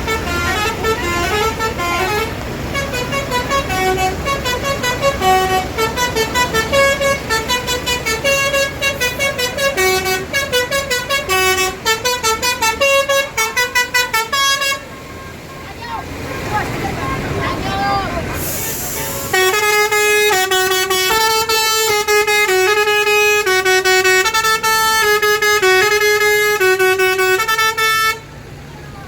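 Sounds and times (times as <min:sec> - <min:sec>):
bus musical horn: 0:00.0 - 0:28.6.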